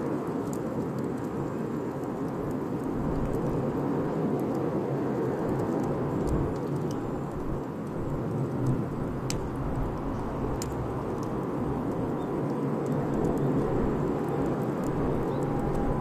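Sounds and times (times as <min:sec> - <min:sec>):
crackles and pops of burning wood: 0:00.0 - 0:16.0
wood fire burning: 0:00.0 - 0:16.0.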